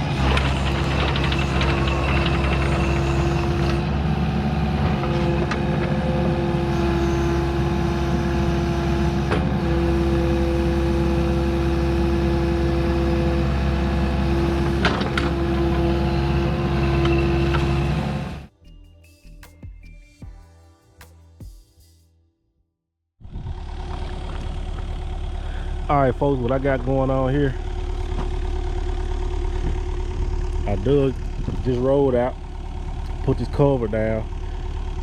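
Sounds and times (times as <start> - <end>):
diesel engine running: 0.0 - 18.5, 23.2 - 35.0.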